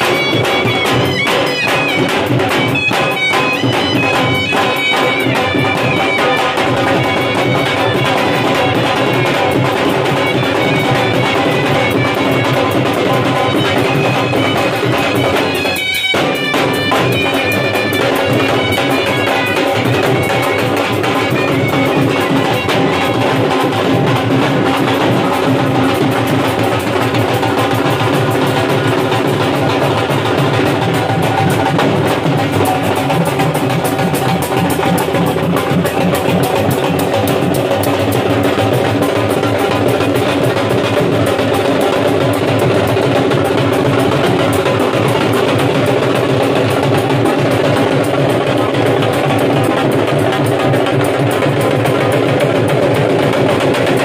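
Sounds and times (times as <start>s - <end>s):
barrel drums beaten fast: 0.0s - 54.0s.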